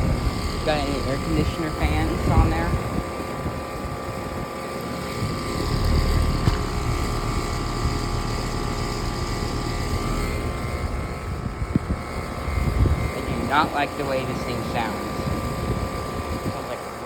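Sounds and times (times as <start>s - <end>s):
fan whir: 0.0s - 17.0s
low compressor hum: 0.0s - 17.0s.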